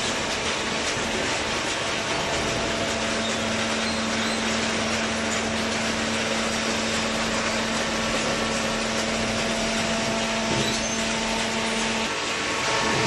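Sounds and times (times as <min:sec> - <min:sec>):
baler machine hum: 0:00.0 - 0:13.0.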